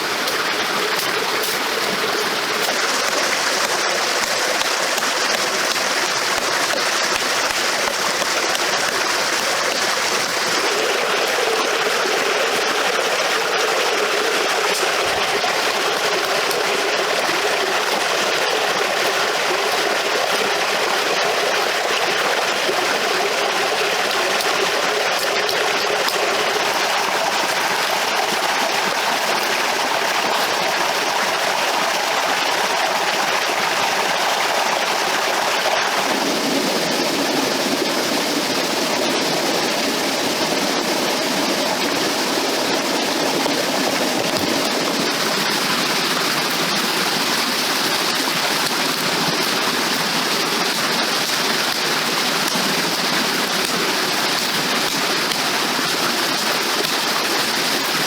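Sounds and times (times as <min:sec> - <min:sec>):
rushing water: 0:00.0 - 0:58.0.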